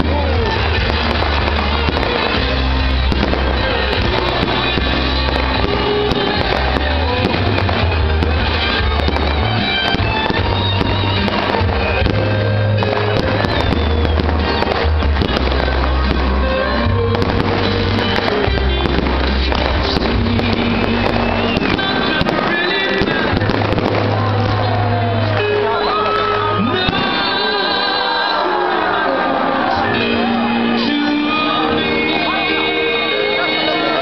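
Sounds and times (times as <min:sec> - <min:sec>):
music with heavy bass: 0:00.0 - 0:27.6
fireworks bursting and crackling: 0:00.0 - 0:34.0.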